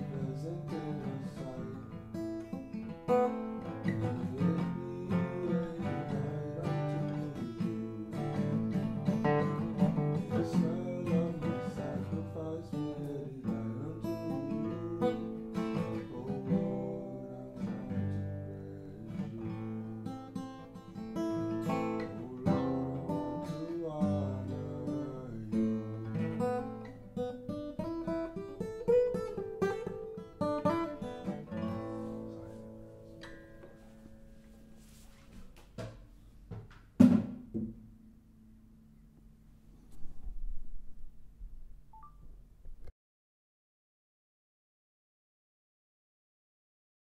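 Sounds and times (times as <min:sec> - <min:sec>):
acoustic guitar strumming: 0:00.0 - 0:35.9, 0:37.0 - 0:38.9.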